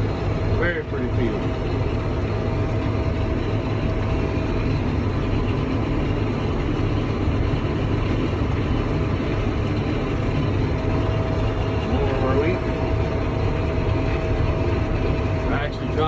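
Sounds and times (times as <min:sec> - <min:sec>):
faint steady whine: 0:00.0 - 0:16.0
vehicle engine droning: 0:00.0 - 0:16.0.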